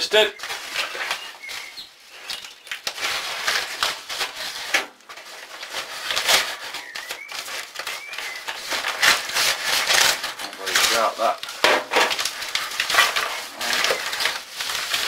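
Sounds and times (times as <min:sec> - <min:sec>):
paper envelope crinkling: 0:00.0 - 0:15.0
paper tearing: 0:02.3 - 0:15.0.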